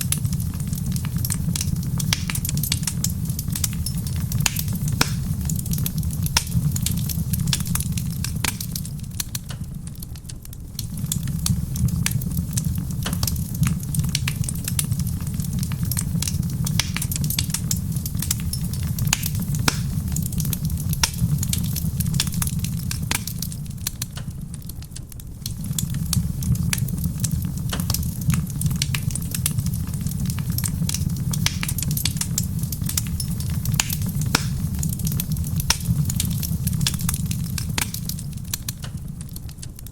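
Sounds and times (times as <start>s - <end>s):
soft rain hiss: 0.0s - 39.9s
steady low rumble: 0.0s - 39.9s
wood fire crackling and popping: 0.0s - 39.9s.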